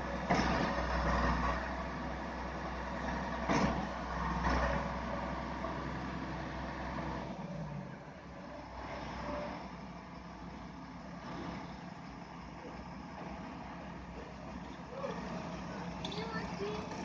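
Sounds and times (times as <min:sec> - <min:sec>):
diesel truck engine rumble: 0:00.0 - 0:17.0.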